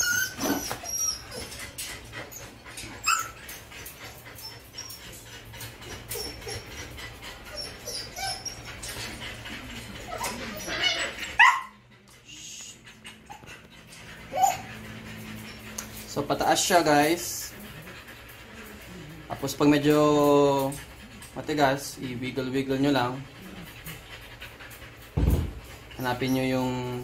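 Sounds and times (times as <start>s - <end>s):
dog crying: 0.0s - 22.1s, 22.7s - 27.0s
dog whimpering and whining: 0.0s - 27.0s.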